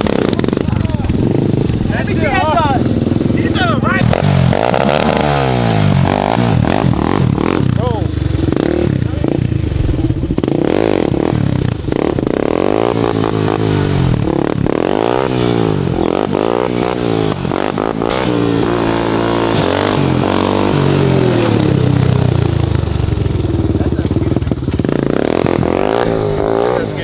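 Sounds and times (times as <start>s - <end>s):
quad engine revving: 0.0s - 27.0s.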